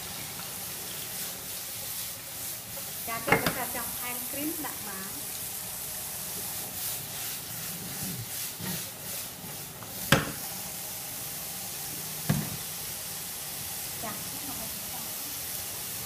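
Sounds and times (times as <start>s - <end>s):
food sizzling in frying pans: 0.0s - 16.0s.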